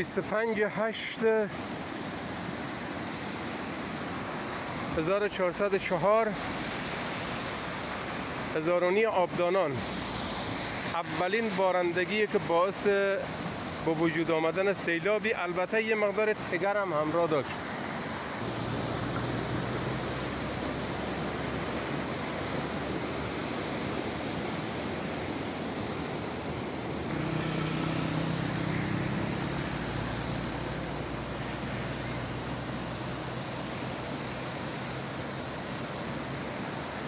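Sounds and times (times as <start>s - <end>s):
floodwater rushing roar: 0.0s - 37.0s.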